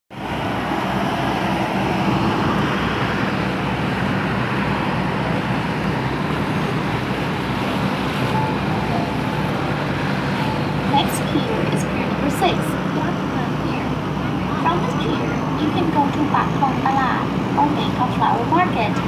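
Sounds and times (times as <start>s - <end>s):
boat diesel engine running: 0.1s - 19.0s
water rushing along hull: 0.1s - 19.0s.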